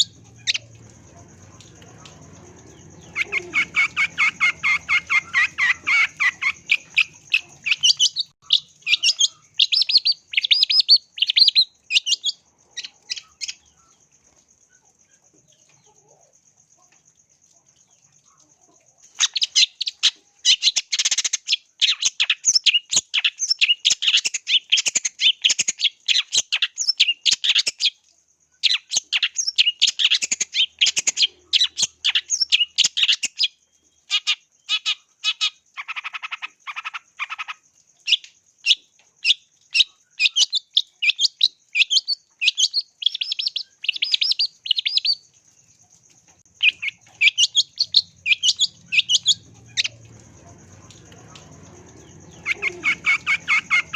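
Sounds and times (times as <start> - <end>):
bird singing chattering song: 0.0 - 16.3, 19.0 - 28.0, 28.6 - 53.9.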